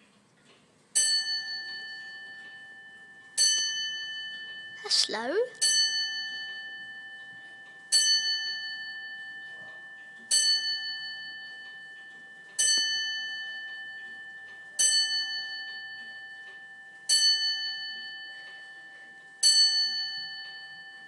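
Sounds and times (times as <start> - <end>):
grandfather clock bell striking: 1.0 - 21.0.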